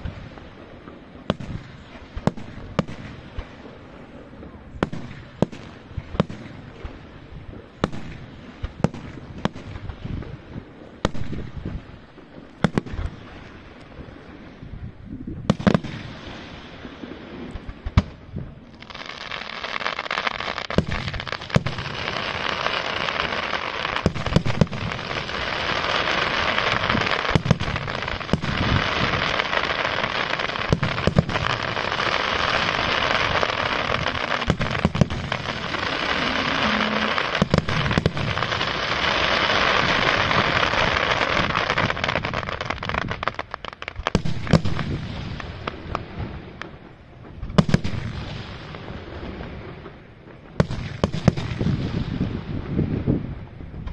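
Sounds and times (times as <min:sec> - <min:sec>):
firework booms: 0:00.0 - 0:53.9
firework crackle: 0:00.0 - 0:53.9.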